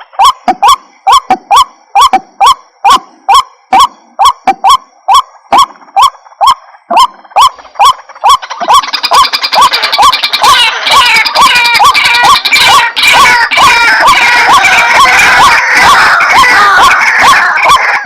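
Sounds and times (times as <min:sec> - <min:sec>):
bird harsh calls: 0:00.0 - 0:18.0.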